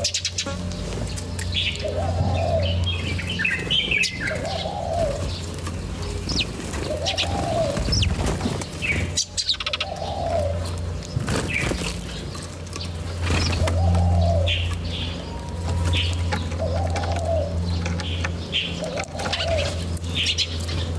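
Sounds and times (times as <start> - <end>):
dove cooing: 0.0 - 20.9
small birds chirping: 0.0 - 20.9
steady low hum: 0.0 - 20.9.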